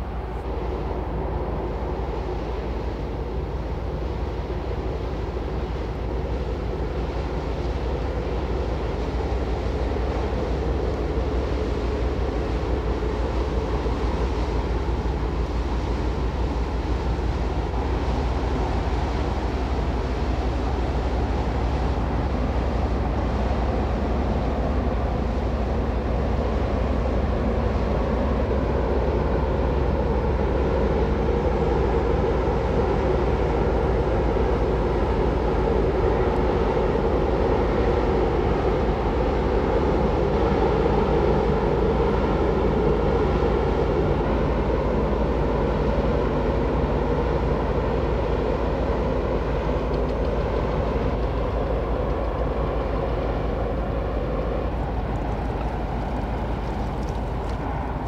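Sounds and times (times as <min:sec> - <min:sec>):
ship diesel engine drone: 0:00.0 - 0:58.0
water rushing along hull: 0:00.0 - 0:58.0.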